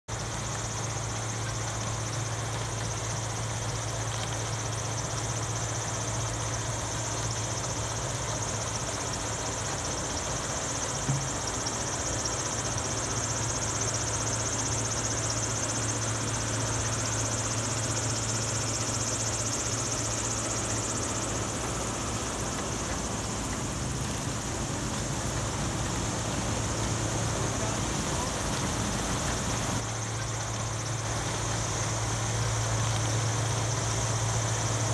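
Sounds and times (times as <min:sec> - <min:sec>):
high hiss: 0:00.1 - 0:34.9
low engine hum: 0:00.1 - 0:34.9.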